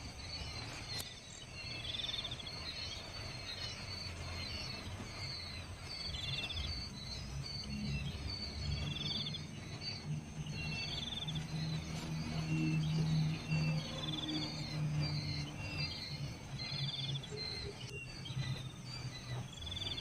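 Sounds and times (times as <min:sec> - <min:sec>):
cricket-like trill: 0:00.0 - 0:20.0
low rumble: 0:00.0 - 0:20.0
soft high insect chirps: 0:00.0 - 0:20.0.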